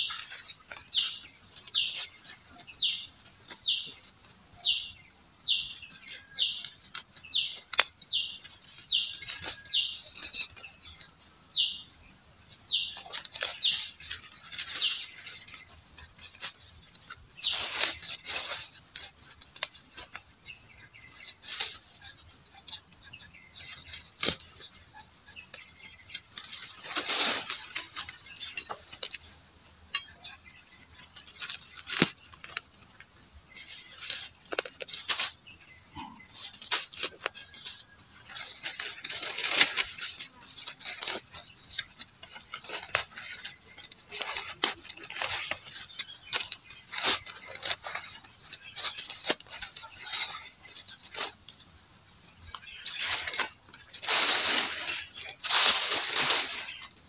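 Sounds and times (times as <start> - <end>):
rustling: 0.0 - 57.0.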